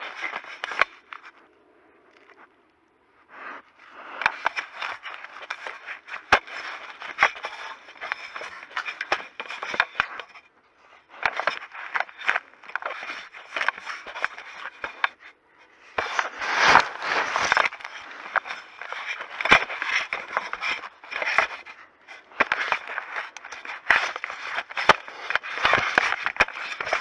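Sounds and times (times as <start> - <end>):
scraping on camera casing: 0.0 - 1.3, 4.1 - 27.0.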